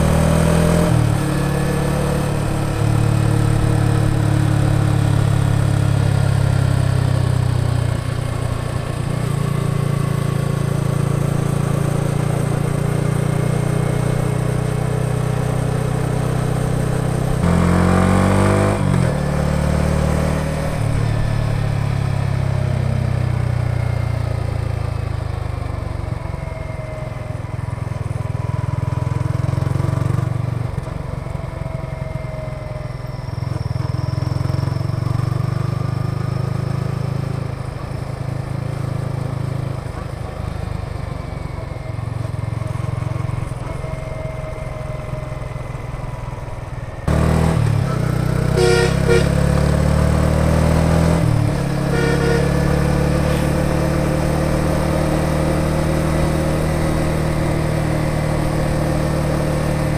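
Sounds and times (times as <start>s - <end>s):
motorcycle engine revving: 0.0s - 25.2s, 33.3s - 59.9s.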